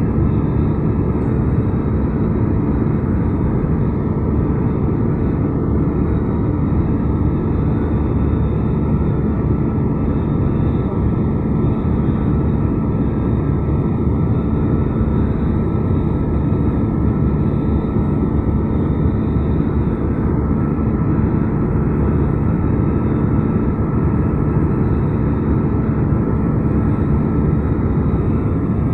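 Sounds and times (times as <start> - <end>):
jet airliner cabin noise: 0.0 - 28.9.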